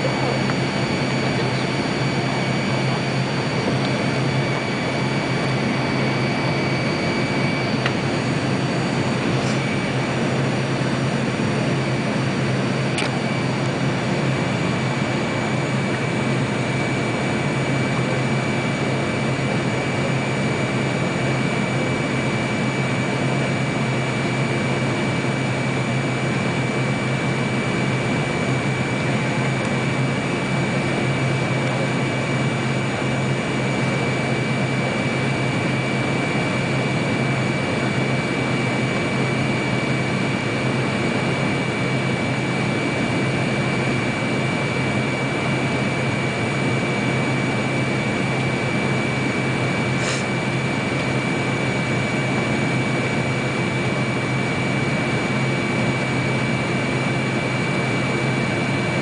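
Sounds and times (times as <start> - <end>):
airplane cabin airflow rush: 0.0 - 21.3, 24.7 - 59.0
jet engines humming: 0.0 - 59.0
steady high whine: 0.0 - 59.0.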